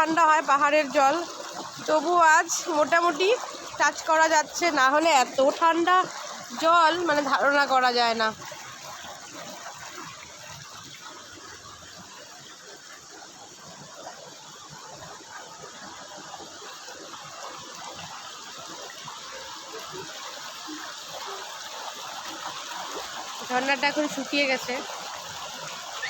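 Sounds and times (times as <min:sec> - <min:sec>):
water spilling over rocks: 0:00.0 - 0:26.0.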